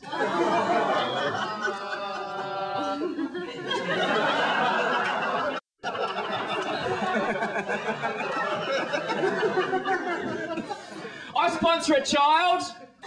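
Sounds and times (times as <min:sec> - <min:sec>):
audience laughing: 0:00.0 - 0:11.3.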